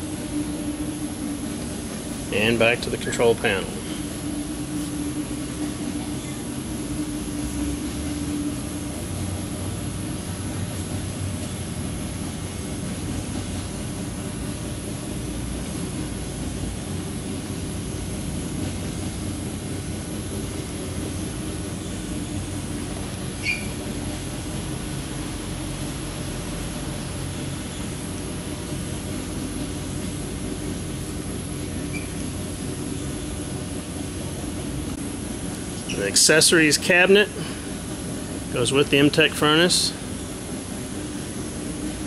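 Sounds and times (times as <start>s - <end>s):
mechanical hum and air noise: 0.0s - 42.0s.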